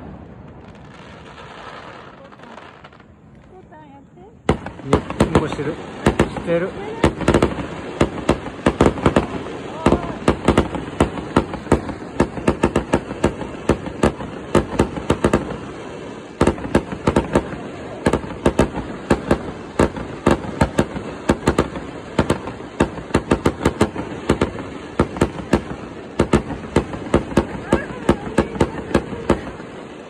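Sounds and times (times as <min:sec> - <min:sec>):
fireworks bangs and pops: 0:00.0 - 0:30.0.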